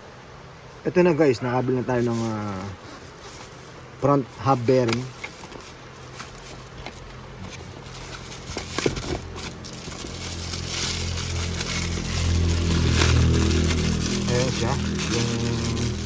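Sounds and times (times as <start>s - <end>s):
low motor vehicle hum: 0.0s - 16.0s
light clicks and handling noises: 2.1s - 16.0s.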